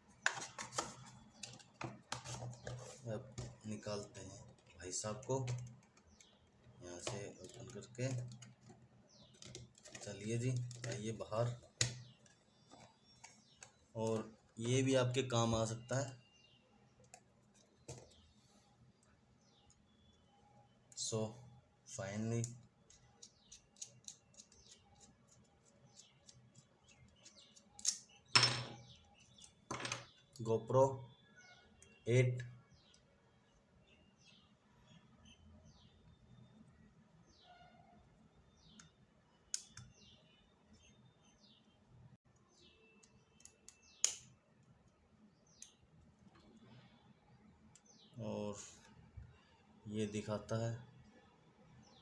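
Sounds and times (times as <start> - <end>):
faint bird chirps: 2.5 - 52.0.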